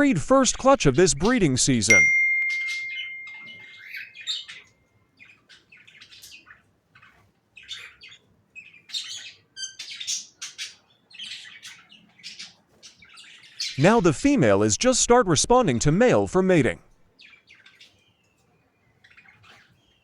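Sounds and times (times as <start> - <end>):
budgerigars chirping and chattering: 0.4 - 20.0.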